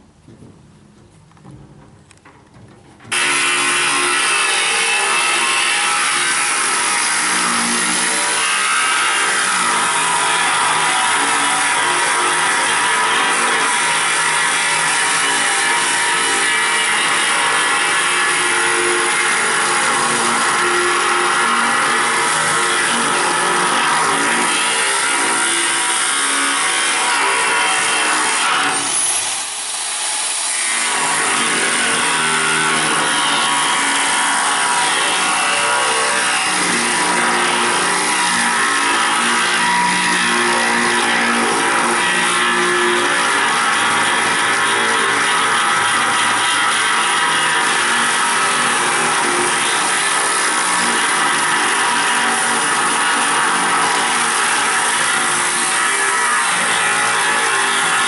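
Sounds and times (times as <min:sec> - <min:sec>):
angle grinder cutting steel: 0:03.1 - 0:58.0.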